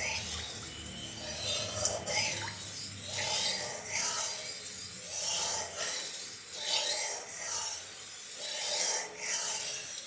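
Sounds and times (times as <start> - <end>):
rhythmic rasping rubbing strokes: 0.0 - 10.0.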